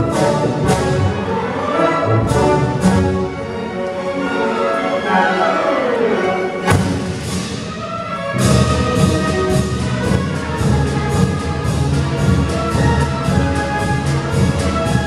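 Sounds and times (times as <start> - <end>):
orchestra playing with brass and timpani: 0.0 - 15.0.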